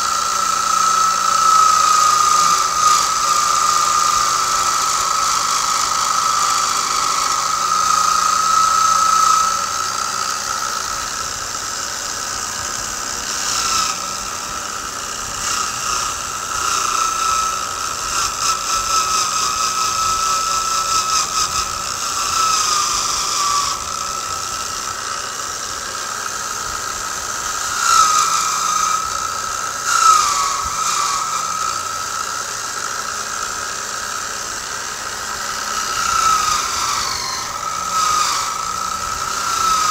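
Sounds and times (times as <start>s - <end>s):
drill motor whine: 0.0s - 39.9s.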